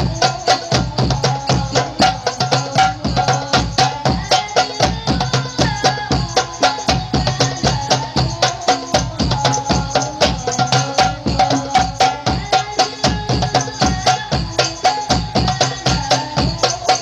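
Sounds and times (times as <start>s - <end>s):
frame drums playing fast rhythm: 0.0s - 17.0s.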